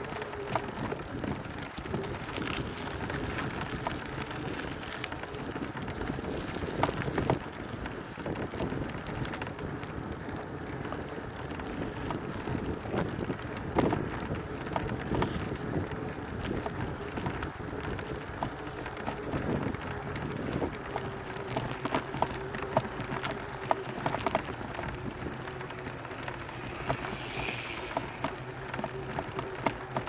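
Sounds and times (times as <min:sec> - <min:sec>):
bike knocks and rattles: 0:00.0 - 0:30.0
tyre noise: 0:00.0 - 0:30.0
wind rushing over microphone: 0:00.0 - 0:30.0.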